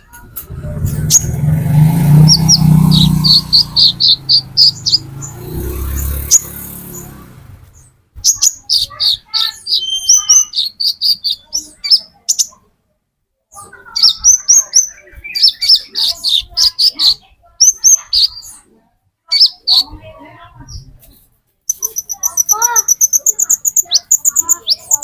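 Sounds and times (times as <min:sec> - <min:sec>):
bird chirping and trilling: 0:00.0 - 0:12.7, 0:13.5 - 0:18.7, 0:19.3 - 0:20.9, 0:21.7 - 0:25.0.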